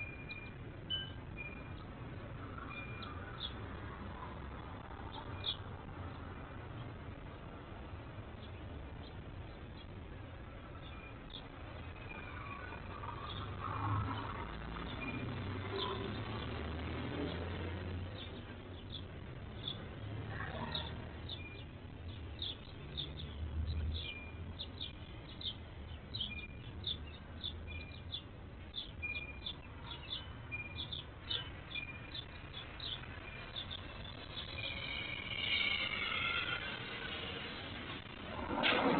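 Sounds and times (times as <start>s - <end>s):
birds chirping: 0.0s - 38.6s.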